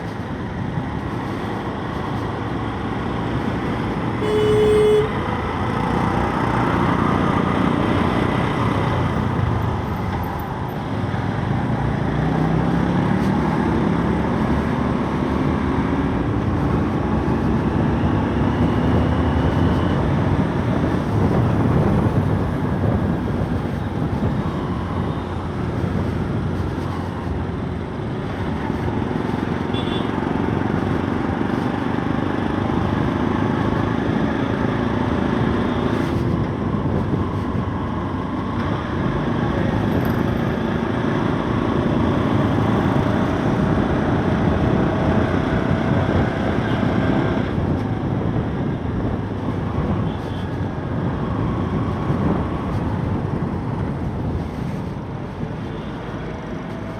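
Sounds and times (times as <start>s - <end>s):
road noise rushing: 0.0s - 56.9s.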